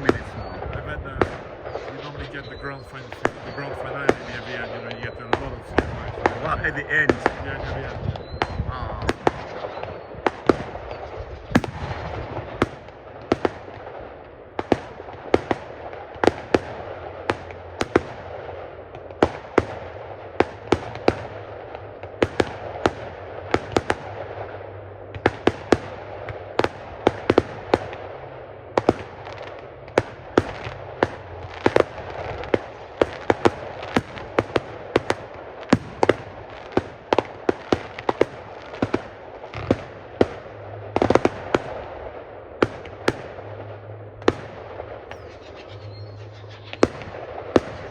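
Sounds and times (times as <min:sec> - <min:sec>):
fireworks bangs: 0:00.0 - 0:47.9
steady background noise: 0:00.0 - 0:47.9.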